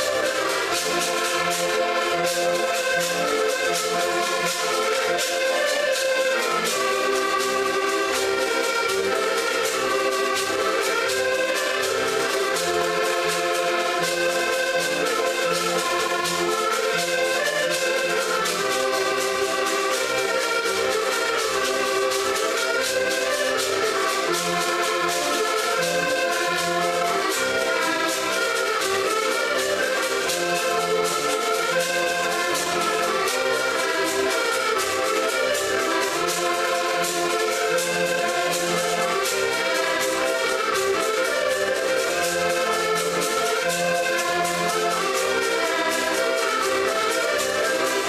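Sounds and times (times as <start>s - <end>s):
accordions playing folk tune: 0.0s - 48.0s
percussion beat: 0.0s - 48.0s.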